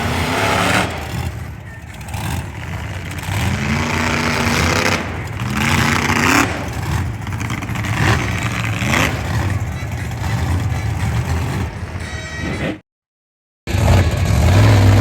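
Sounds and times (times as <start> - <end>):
truck engine revving hard: 0.0 - 12.8, 13.7 - 15.0.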